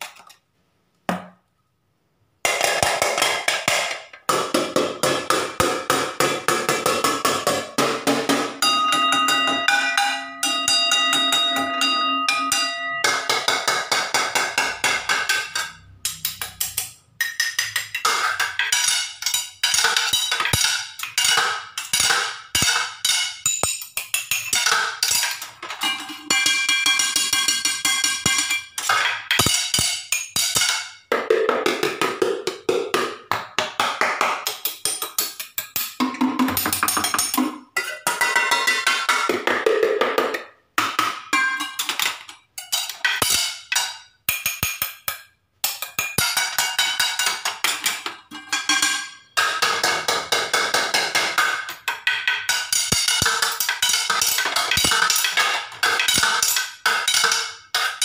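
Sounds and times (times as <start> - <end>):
pots and plates being struck: 2.5 - 58.0.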